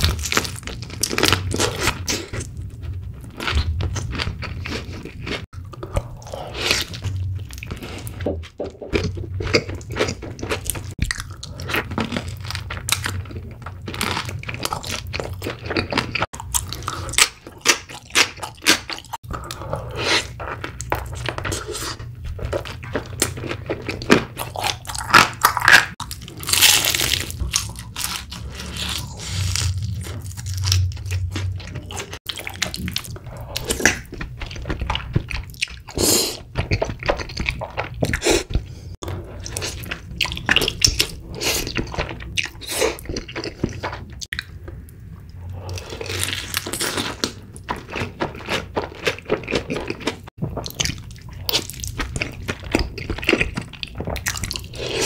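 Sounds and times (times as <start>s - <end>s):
crunchy chewing of fried chicken: 8.9s - 44.6s, 45.6s - 55.0s.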